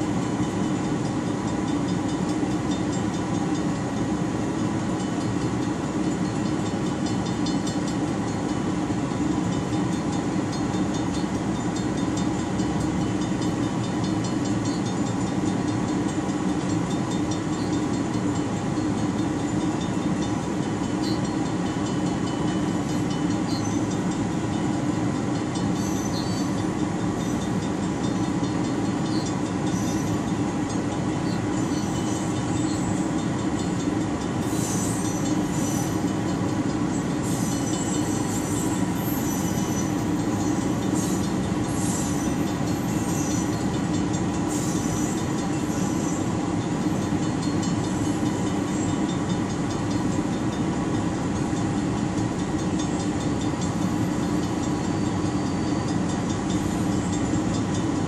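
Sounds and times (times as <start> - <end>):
train wheel squeals: 0.0 - 58.0
train wheels rumbling on rails: 0.0 - 58.0.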